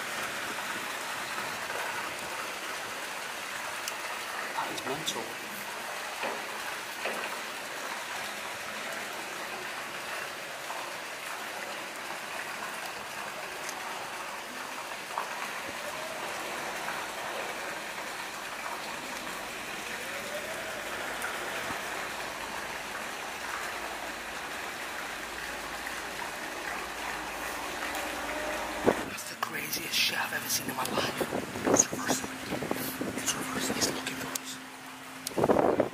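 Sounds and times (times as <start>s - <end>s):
rushing water in tunnel: 0.0s - 35.9s.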